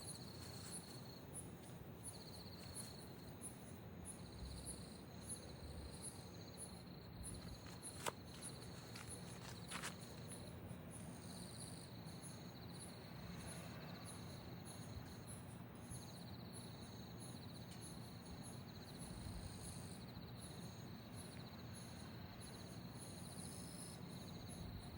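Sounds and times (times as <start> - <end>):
crickets trilling: 0.0 - 24.9.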